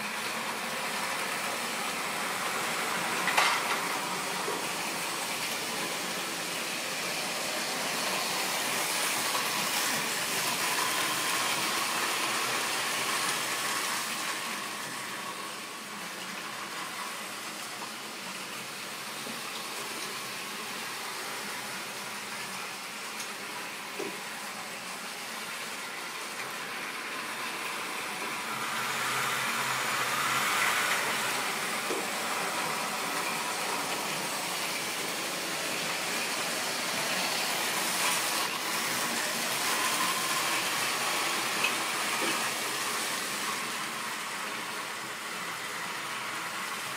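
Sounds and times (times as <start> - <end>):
model train rolling on track: 0.0 - 46.9.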